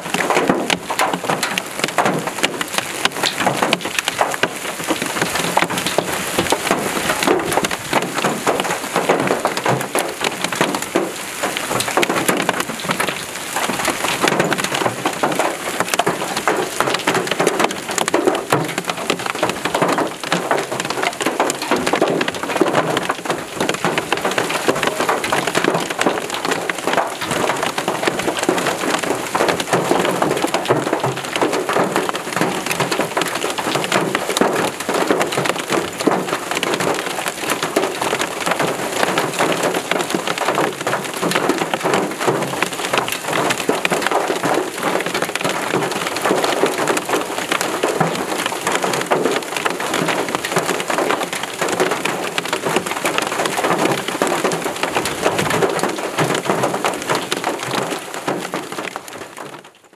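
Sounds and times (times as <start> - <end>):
hail and heavy rain pelting ground: 0.0 - 59.9.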